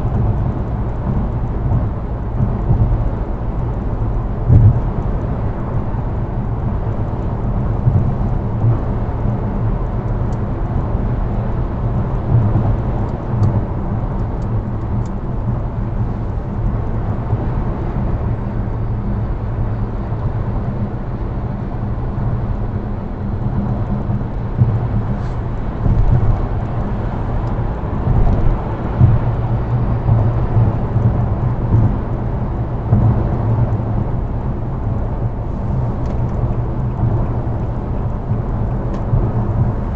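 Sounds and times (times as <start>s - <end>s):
car engine and road rumble: 0.0s - 39.9s
vehicles passing: 0.0s - 39.9s.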